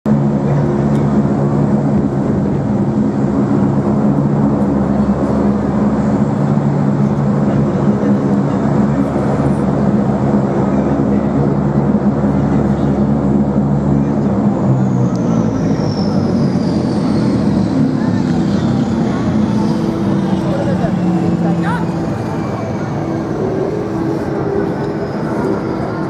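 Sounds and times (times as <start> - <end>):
engine droning steadily: 0.0 - 26.0.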